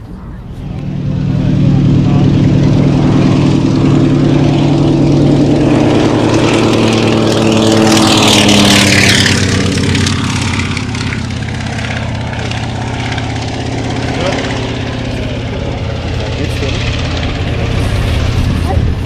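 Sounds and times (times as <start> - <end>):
propeller aircraft engine drone: 0.0 - 19.0.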